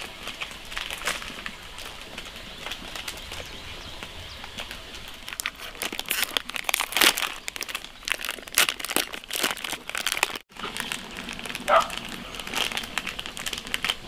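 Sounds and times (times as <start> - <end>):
plastic packet crinkling: 0.0 - 3.5, 4.5 - 14.0.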